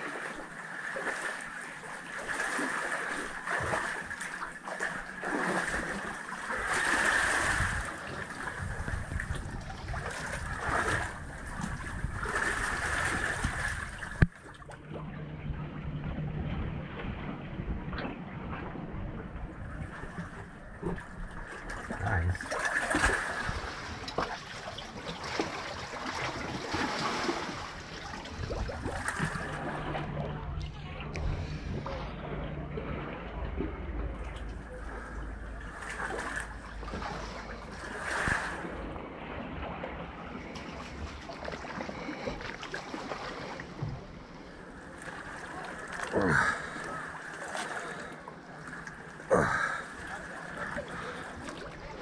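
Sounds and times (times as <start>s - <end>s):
water drips and splashes: 0.0s - 15.0s, 19.4s - 44.0s, 44.9s - 52.0s
seawater lapping against rock: 0.0s - 52.0s.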